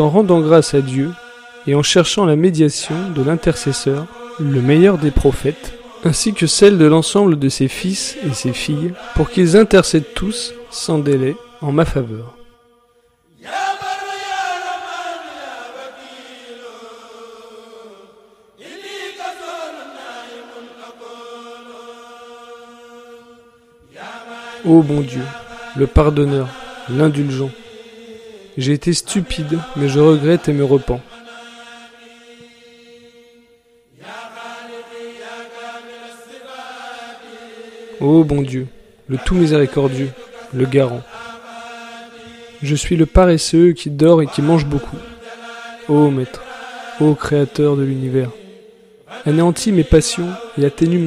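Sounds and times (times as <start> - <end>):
person chanting: 0.0 - 12.7, 13.4 - 51.0.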